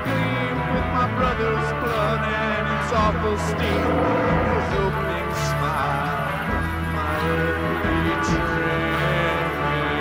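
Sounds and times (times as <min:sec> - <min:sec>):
background music with bass: 0:00.0 - 0:10.0.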